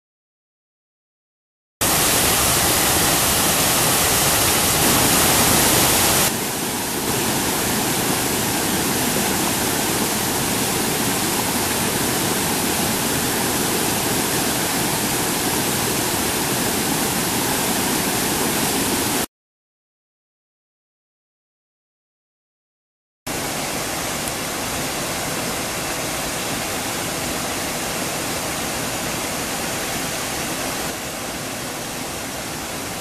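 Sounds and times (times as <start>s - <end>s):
rushing water: 1.8s - 19.3s, 23.3s - 33.0s.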